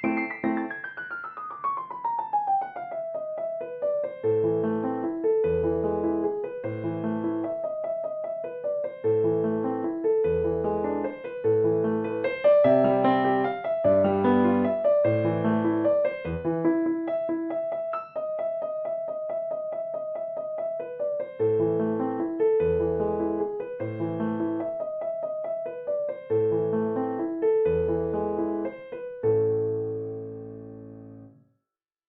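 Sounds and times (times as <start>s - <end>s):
piano music: 0.0s - 31.5s.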